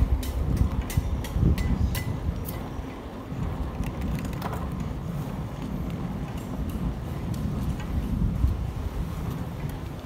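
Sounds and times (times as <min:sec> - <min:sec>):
bicycle road rumble: 0:00.0 - 0:10.0
wind buffeting microphone: 0:00.0 - 0:10.0.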